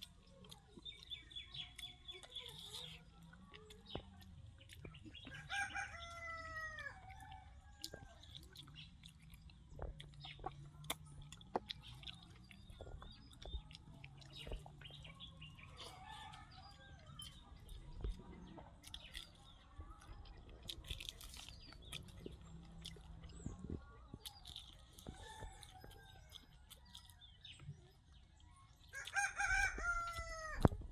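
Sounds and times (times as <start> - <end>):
person chewing: 0.0 - 6.3, 7.0 - 30.8
birds chirping: 0.0 - 30.9.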